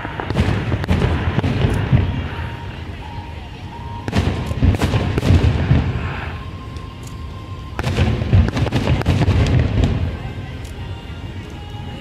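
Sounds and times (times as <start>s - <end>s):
fireworks booming and cracking: 0.0s - 11.4s.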